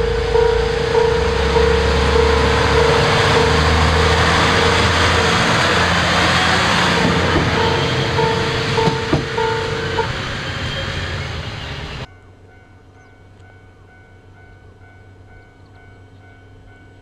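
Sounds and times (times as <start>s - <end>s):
railcar rumbling past: 0.0s - 17.0s.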